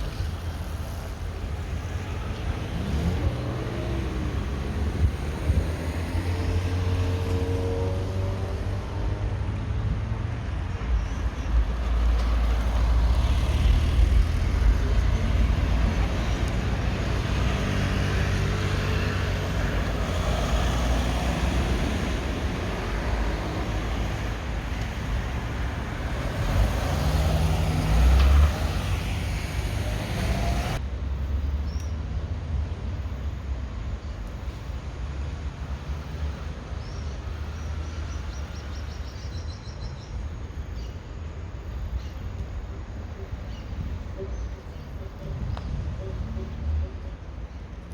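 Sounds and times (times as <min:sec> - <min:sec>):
passing road traffic rumble: 0:00.0 - 0:47.9.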